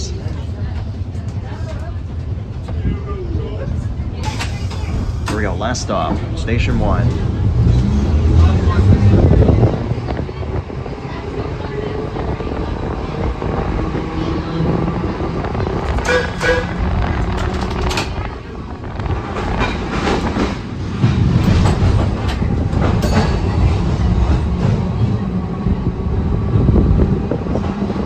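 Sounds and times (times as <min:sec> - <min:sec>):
streetcar rumbling on track: 0:00.0 - 0:28.0
wheels clicking on rails: 0:04.2 - 0:28.0.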